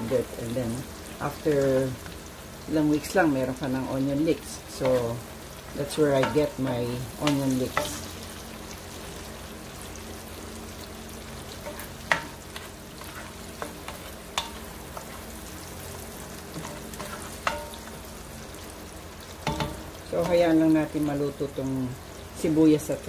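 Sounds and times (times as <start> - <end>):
onion and tomato sizzling in oil: 0.0 - 23.0.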